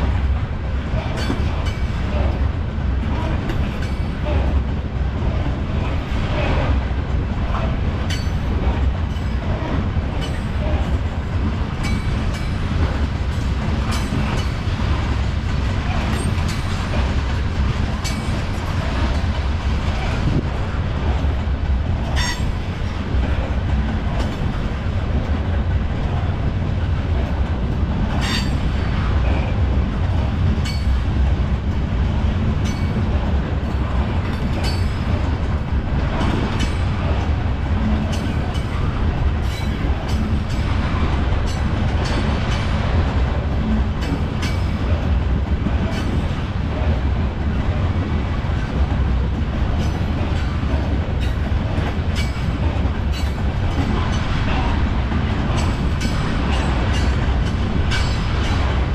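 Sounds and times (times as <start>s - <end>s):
train wheels rumbling on rail: 0.0s - 58.9s
wheels clicking over rail joints: 0.0s - 58.9s.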